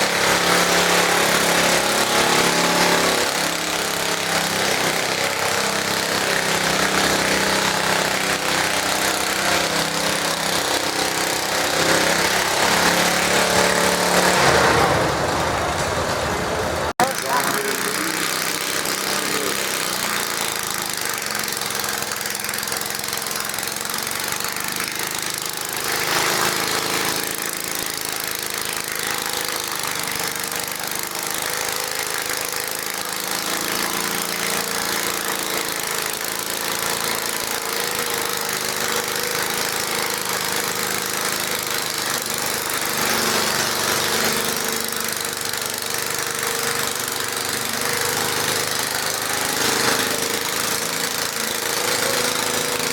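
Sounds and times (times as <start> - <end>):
small tractor engine under load: 0.0 - 52.9.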